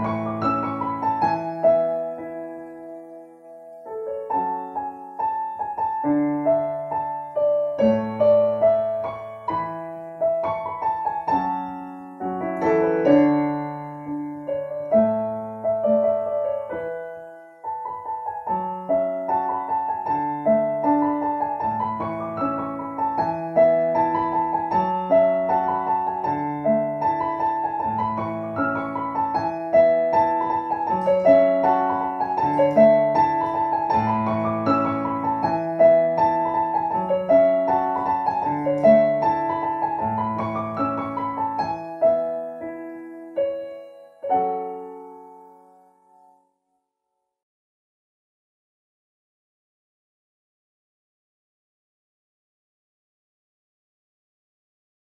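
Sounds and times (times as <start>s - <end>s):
solo piano music: 0.0s - 47.0s.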